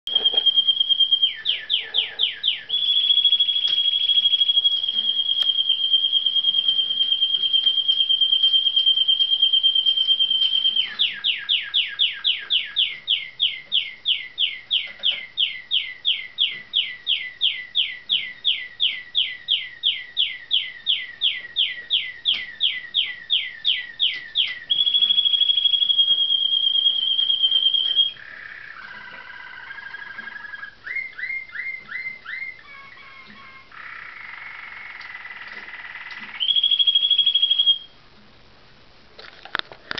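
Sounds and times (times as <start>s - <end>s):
songbird singing trills: 0.1s - 37.9s.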